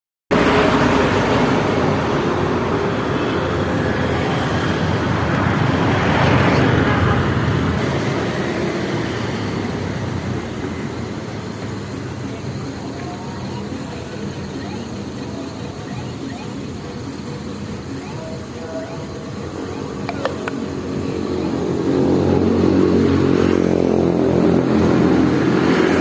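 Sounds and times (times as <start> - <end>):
vehicle engine and road noise: 0.3 - 26.0.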